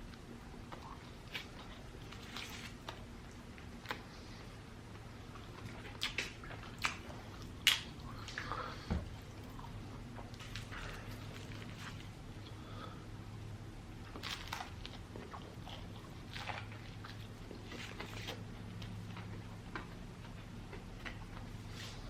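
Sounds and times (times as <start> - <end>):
person chewing crunchy food: 0.0 - 12.8, 14.0 - 22.0
steady low hum: 0.0 - 22.0.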